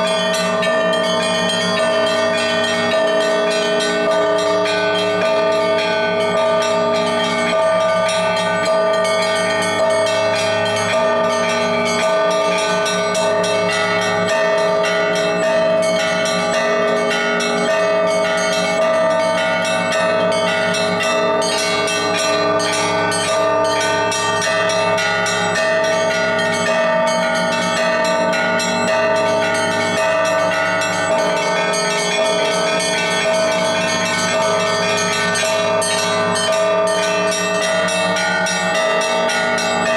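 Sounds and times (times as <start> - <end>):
large church bells ringing: 0.0 - 39.9
small church bells striking quickly: 0.0 - 39.9.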